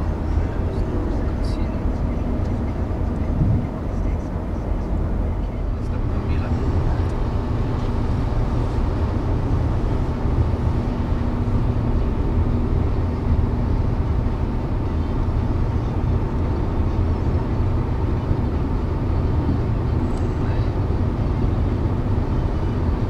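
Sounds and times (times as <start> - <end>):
car driving inside cabin: 0.0 - 23.0.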